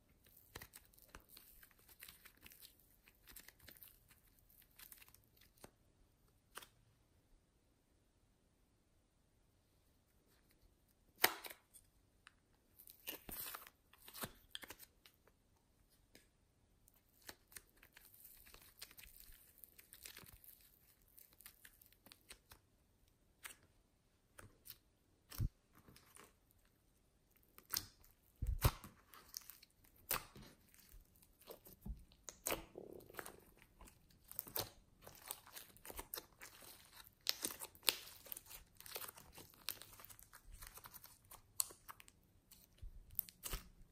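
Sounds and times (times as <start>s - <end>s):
clay and slime crackling: 0.0s - 6.9s, 10.3s - 43.9s.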